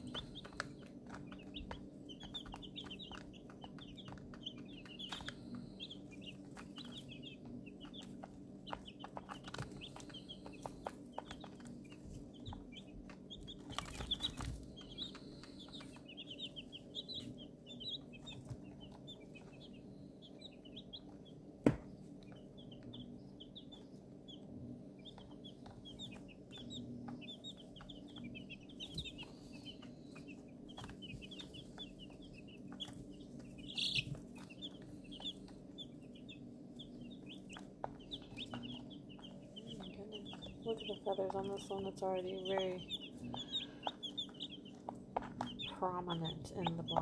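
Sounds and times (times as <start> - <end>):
baby chicks peeping: 0.0 - 47.0
low steady hum: 0.0 - 47.0.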